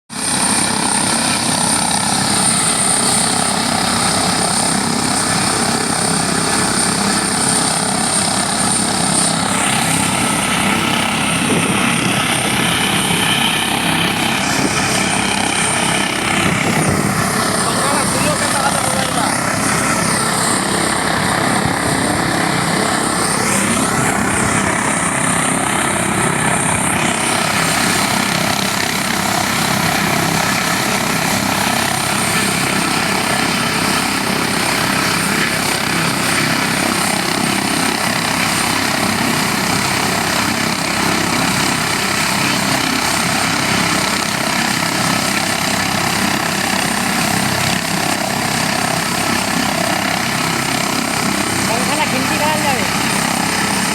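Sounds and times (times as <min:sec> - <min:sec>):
helicopter rotor and engine: 0:00.1 - 0:53.9.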